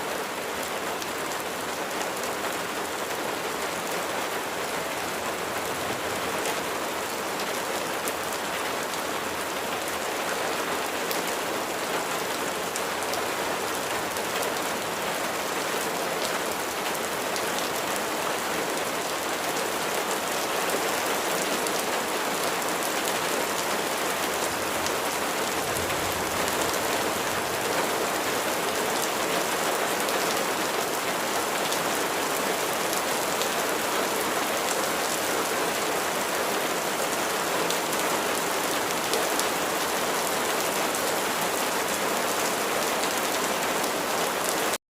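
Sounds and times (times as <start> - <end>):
rain falling on a surface: 0.0 - 44.8.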